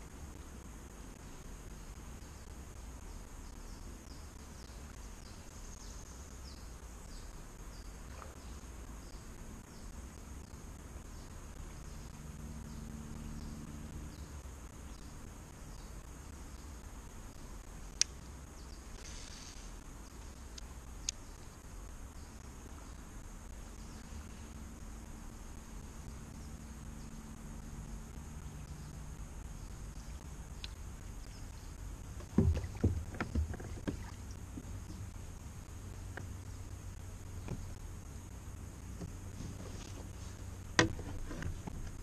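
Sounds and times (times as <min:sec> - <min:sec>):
high insect drone: 0:00.0 - 0:42.0
low rumble: 0:00.0 - 0:42.0.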